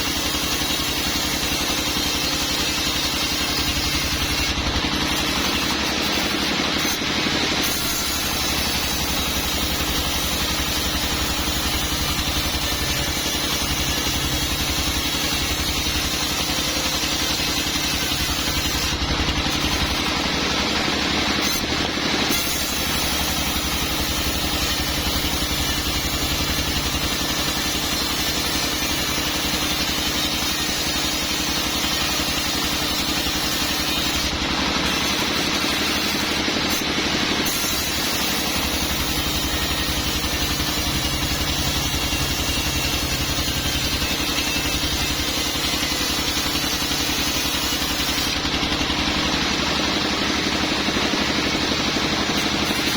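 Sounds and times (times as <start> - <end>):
sawmill machinery drone: 0.0 - 52.9.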